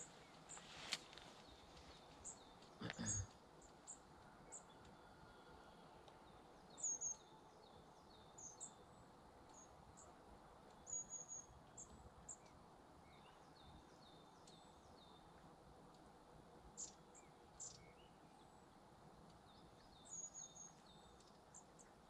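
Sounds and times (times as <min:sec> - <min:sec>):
faint background hiss: 0:00.0 - 0:22.0
small birds chirping: 0:00.0 - 0:22.0.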